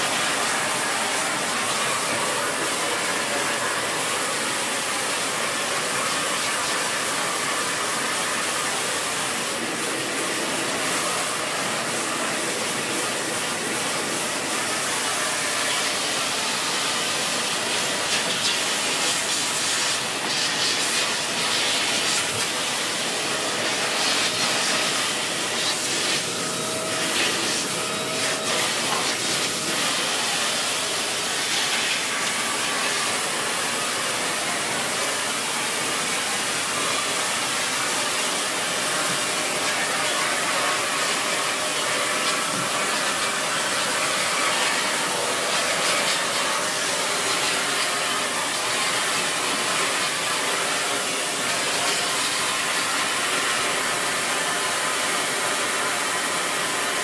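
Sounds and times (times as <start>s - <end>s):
vacuum cleaner suction hiss: 0.0s - 57.0s.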